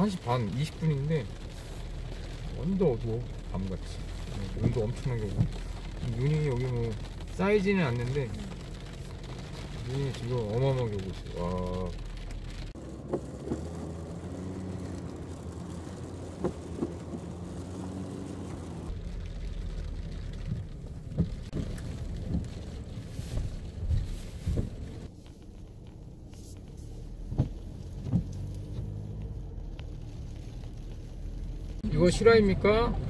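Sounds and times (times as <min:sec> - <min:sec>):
engine and road hum: 0:00.0 - 0:33.0.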